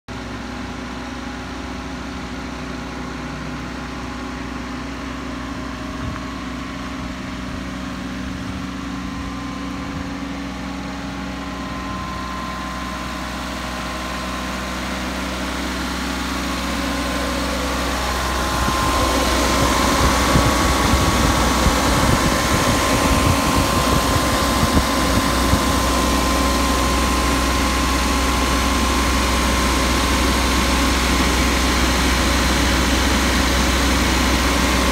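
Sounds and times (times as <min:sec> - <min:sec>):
small truck engine idling: 0:00.1 - 0:34.9
steady whine: 0:00.1 - 0:34.9.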